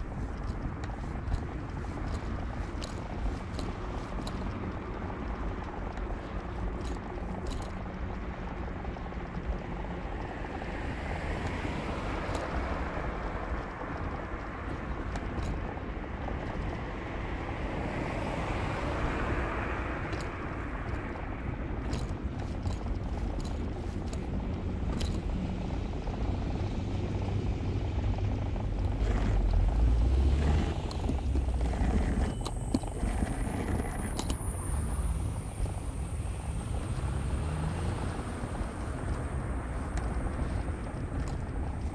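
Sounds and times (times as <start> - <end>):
street traffic rumble: 0.0 - 41.9.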